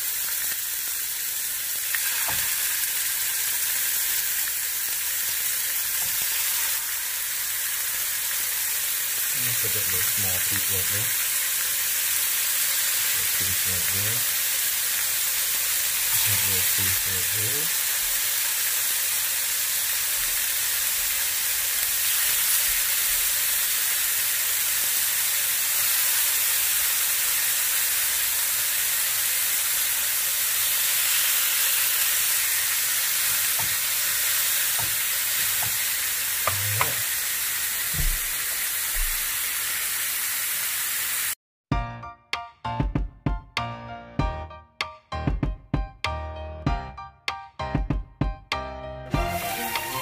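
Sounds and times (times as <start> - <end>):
fish sizzling in a frying pan: 0.0 - 41.4.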